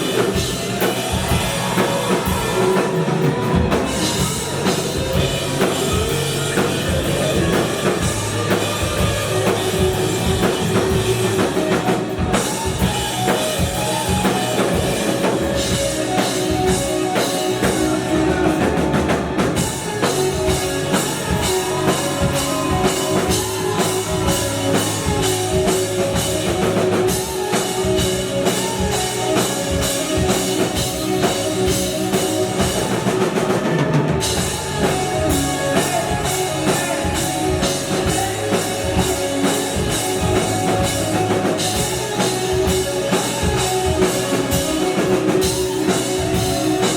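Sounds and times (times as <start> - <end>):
pounding drum kit: 0.0 - 46.9
rock band playing live: 0.0 - 46.9.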